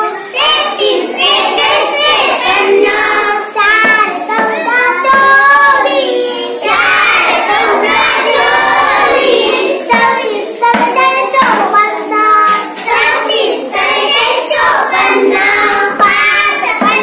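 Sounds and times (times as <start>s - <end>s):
girl chanting sing-song: 0.0s - 17.0s.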